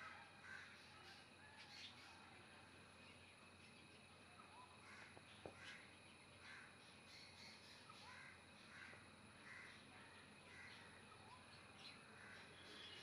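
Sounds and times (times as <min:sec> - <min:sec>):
distant bird calls: 0:00.0 - 0:13.0.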